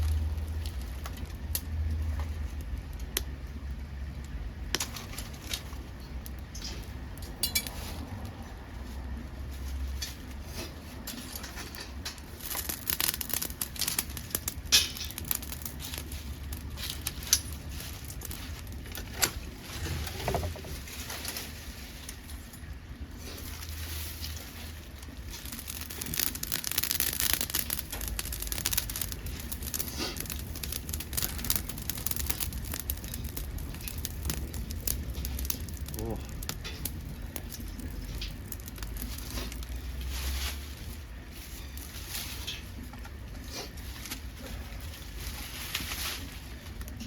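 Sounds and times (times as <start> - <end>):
wood crackling in a stove: 0.0 - 47.0.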